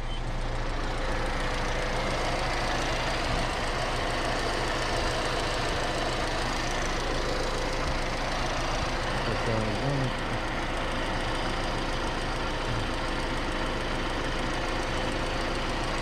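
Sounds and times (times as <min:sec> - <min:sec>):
car engine idling: 0:00.0 - 0:16.0
fuel injectors ticking: 0:01.4 - 0:16.0.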